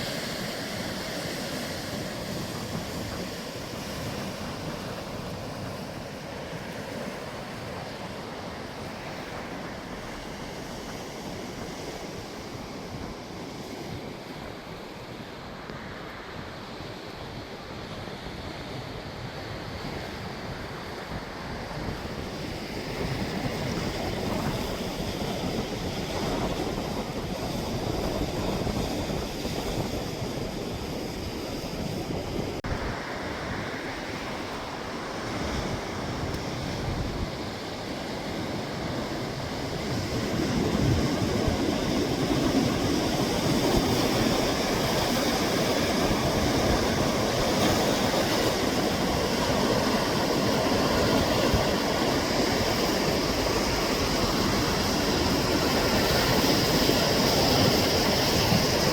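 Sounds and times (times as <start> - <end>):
sea waves washing on shore: 0.0 - 58.9
wind on microphone: 0.0 - 58.9.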